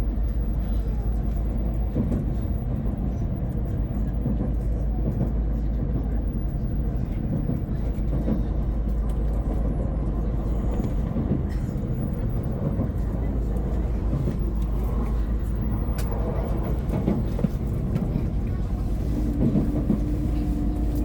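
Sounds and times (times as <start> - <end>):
train rumbling inside cabin: 0.0 - 21.0.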